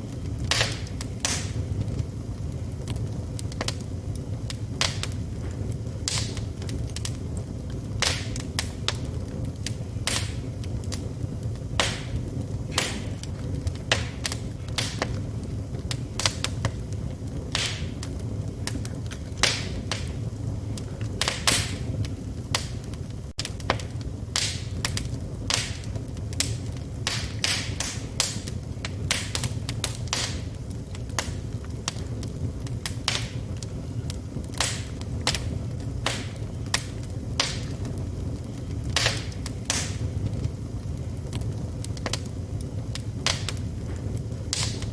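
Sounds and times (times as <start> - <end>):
fire flames rumbling: 0.0 - 44.9
wood fire crackling and popping: 0.0 - 44.9.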